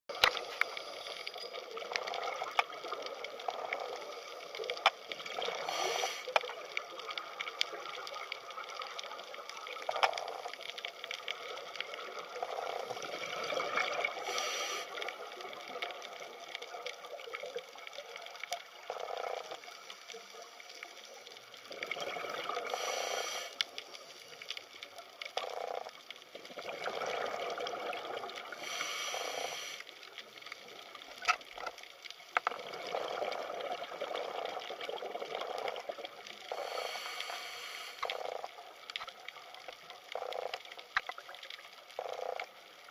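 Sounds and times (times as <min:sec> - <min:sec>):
underwater bubbling and sloshing: 0:00.1 - 0:42.9.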